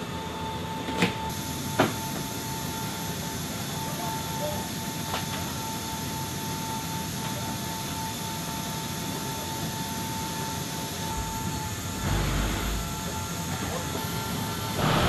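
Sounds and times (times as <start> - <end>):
gas turbine whine: 0.0 - 15.0.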